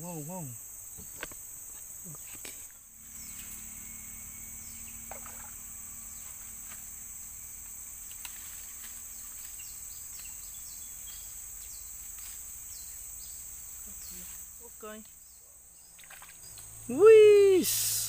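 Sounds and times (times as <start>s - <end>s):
insects shrilling: 0.0s - 18.0s.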